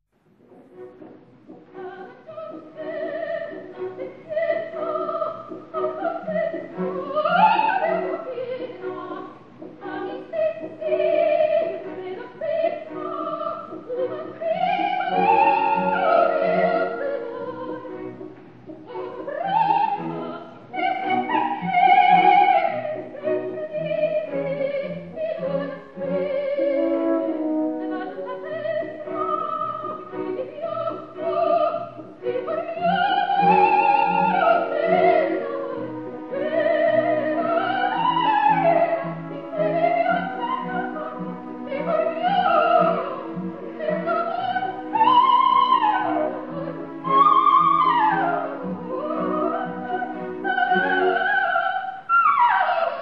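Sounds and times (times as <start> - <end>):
orchestral accompaniment: 0.2 - 53.0
operatic soprano singing: 1.5 - 53.0.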